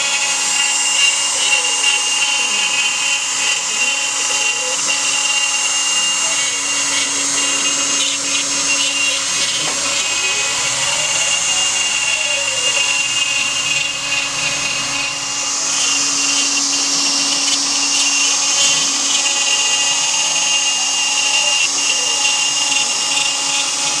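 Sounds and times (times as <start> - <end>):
router spindle whine: 0.0 - 24.0
stepper motors sweeping in pitch: 0.0 - 24.0.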